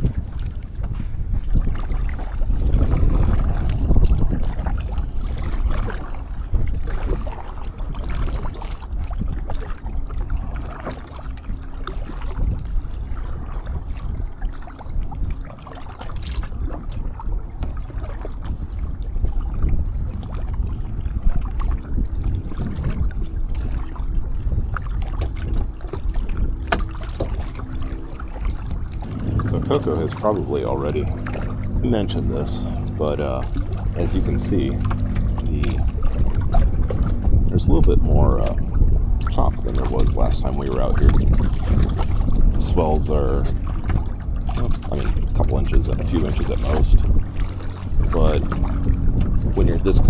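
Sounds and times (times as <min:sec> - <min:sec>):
water lapping around kayak: 0:00.0 - 0:50.0
wind buffeting microphone: 0:00.0 - 0:50.0.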